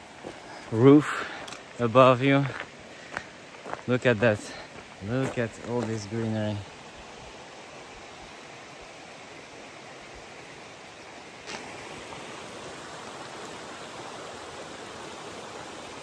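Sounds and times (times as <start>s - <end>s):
stream water over rocks: 0.0s - 16.0s.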